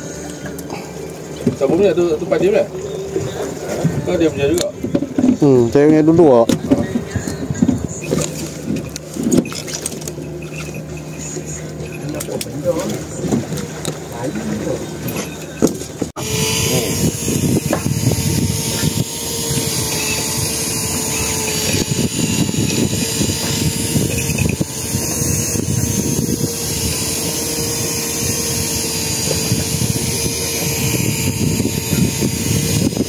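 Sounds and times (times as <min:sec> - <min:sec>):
steady motor hum: 0:00.0 - 0:33.0.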